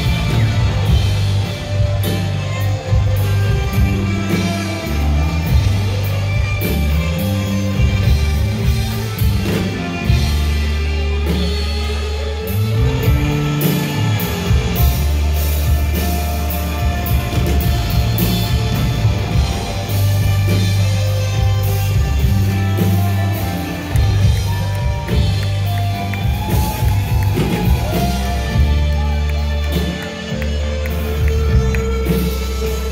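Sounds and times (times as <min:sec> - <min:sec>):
bass guitar: 0:00.0 - 0:32.9
drum kit: 0:00.0 - 0:32.9
electric guitar: 0:00.0 - 0:32.9.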